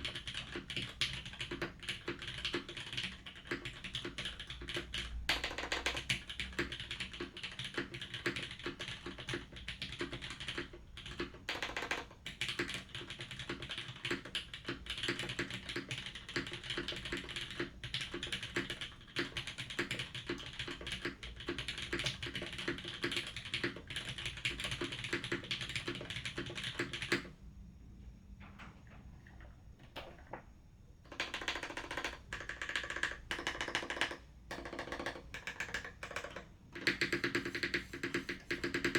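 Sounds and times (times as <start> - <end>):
mechanical keyboard typing: 0.0 - 27.4, 31.1 - 38.9.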